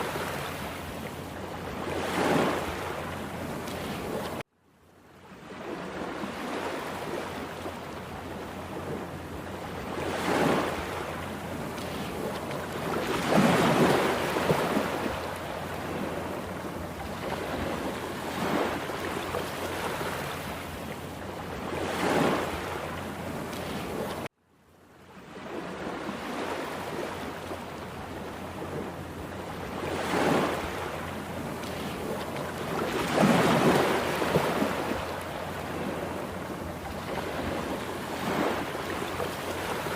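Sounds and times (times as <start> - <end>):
waves breaking: 0.0 - 4.5, 5.2 - 24.3, 25.2 - 39.9.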